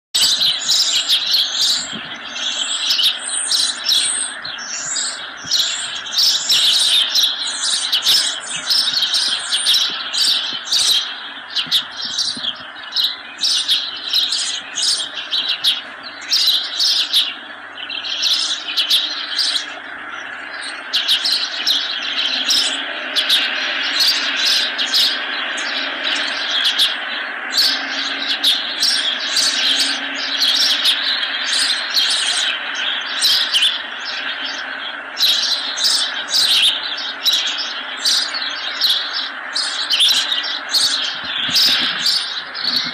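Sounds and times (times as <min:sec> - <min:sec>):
birds chirping: 0:00.1 - 0:42.9.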